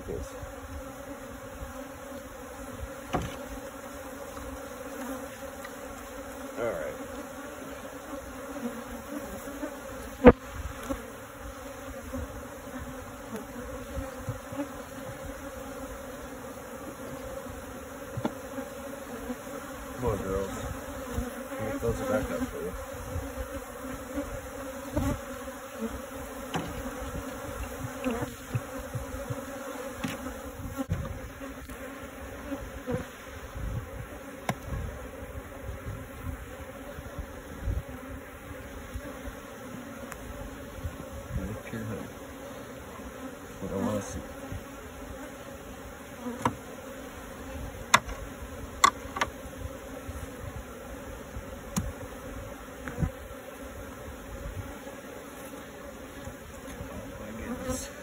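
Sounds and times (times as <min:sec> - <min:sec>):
honeybees buzzing: 0:00.0 - 0:58.0.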